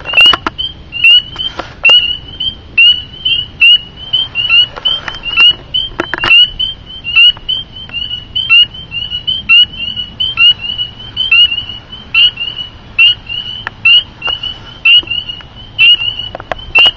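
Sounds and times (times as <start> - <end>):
chorus of peepers: 0.0 - 16.9
close frog high peep: 0.0 - 16.9.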